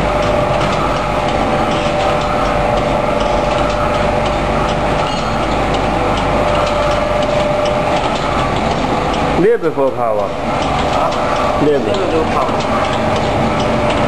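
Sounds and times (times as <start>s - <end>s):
machine whine: 0.0s - 14.0s
packing machine clattering: 0.0s - 14.0s.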